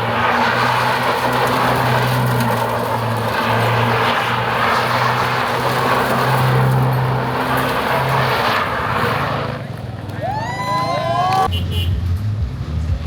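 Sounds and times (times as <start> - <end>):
car engines and exhausts droning: 0.0 - 13.0.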